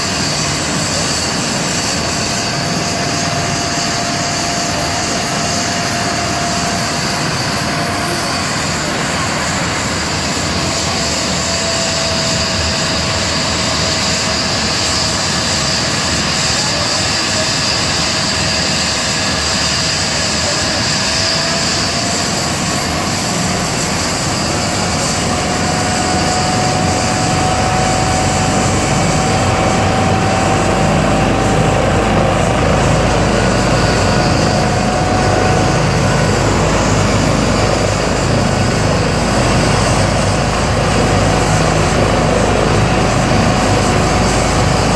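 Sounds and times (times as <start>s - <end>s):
helicopter turbine whine: 0.0s - 44.9s.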